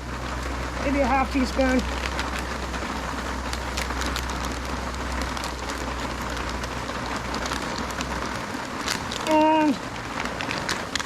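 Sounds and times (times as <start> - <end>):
heavy rain on a tarp: 0.0 - 11.0
low rumble: 0.0 - 11.0.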